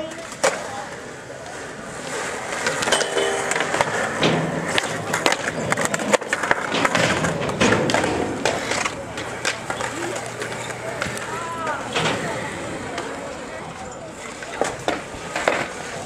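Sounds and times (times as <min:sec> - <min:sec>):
skateboard clacks: 0:00.0 - 0:16.0
skateboard wheels rolling on concrete: 0:00.0 - 0:16.0.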